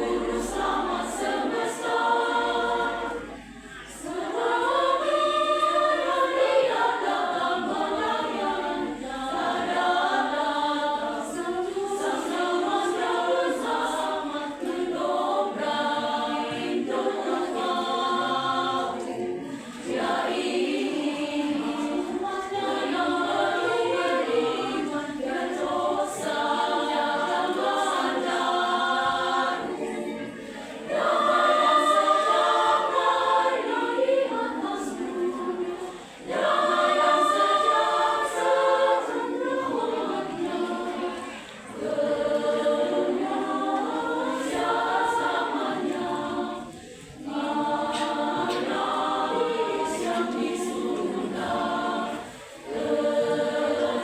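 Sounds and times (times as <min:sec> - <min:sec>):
women's choir singing a hymn: 0:00.0 - 0:54.0.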